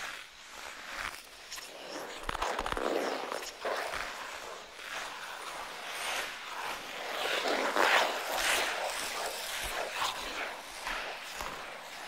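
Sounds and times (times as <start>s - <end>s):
ice skate blades scraping: 0.0s - 12.0s.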